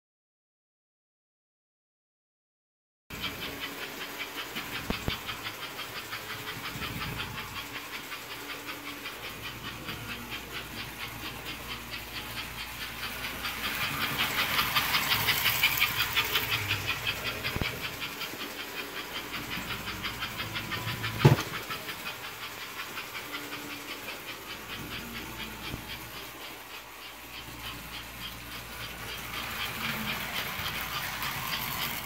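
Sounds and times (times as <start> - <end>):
toy steam locomotive chuffing: 3.1 - 32.0
wheels rumbling on track: 3.1 - 32.0.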